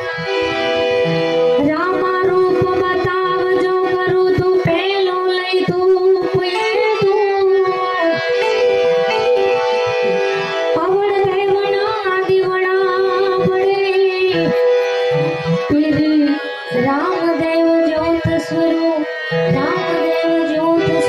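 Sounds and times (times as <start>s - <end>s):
instrumental drone: 0.0s - 21.0s
woman singing into a microphone: 1.5s - 9.5s, 10.6s - 21.0s.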